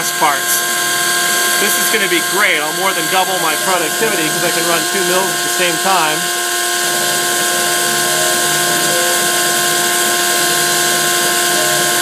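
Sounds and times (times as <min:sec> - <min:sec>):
milling machine spindle whine: 0:00.0 - 0:12.0
stepper motor tones: 0:00.0 - 0:12.0.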